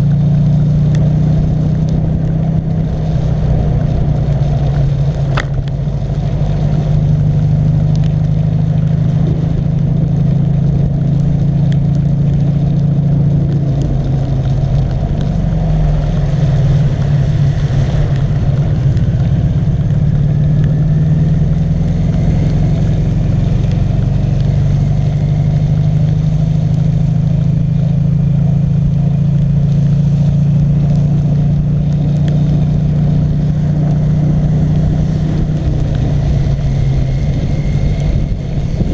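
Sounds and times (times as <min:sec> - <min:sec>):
trike engine running: 0:00.0 - 0:38.9.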